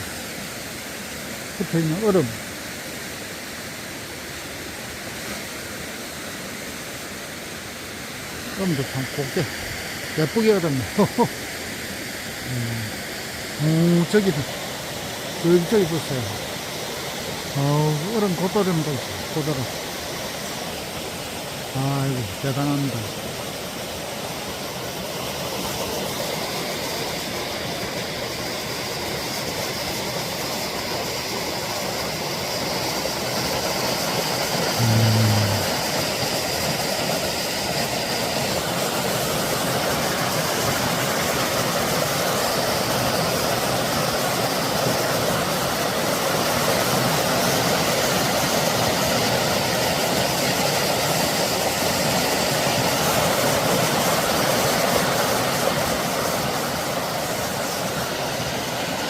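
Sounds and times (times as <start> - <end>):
waterfall water rushing: 0.0 - 59.0.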